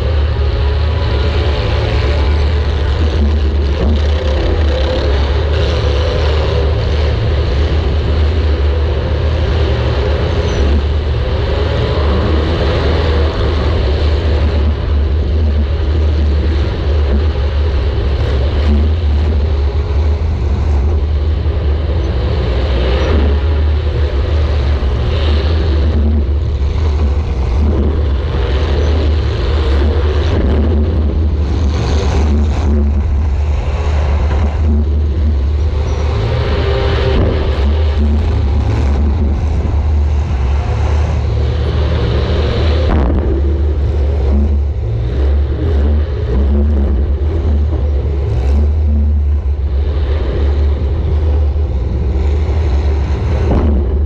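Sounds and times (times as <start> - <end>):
car engine rumbling loudly: 0.0 - 54.0.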